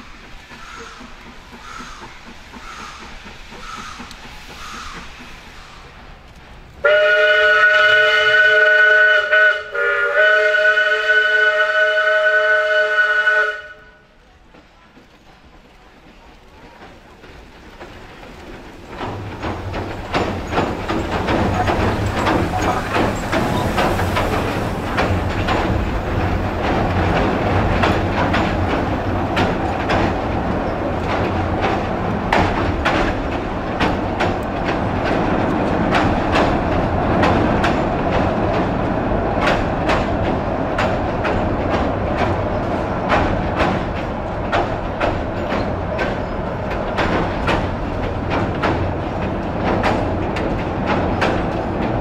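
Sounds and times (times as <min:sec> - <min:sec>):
steam train passing: 0:00.0 - 0:52.0
wheels clicking over rail joints: 0:00.0 - 0:52.0.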